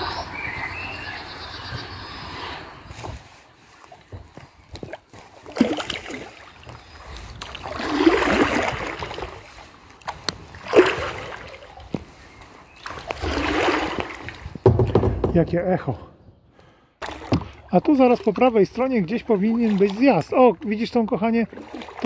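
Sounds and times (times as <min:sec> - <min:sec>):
kayak paddle swishing through water: 0:01.7 - 0:15.0, 0:17.0 - 0:22.0.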